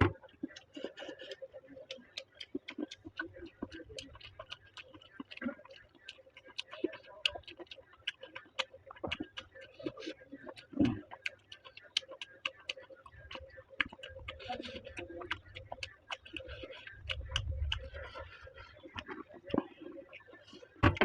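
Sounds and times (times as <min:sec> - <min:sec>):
wet chewing and crunching: 0:00.0 - 0:21.0.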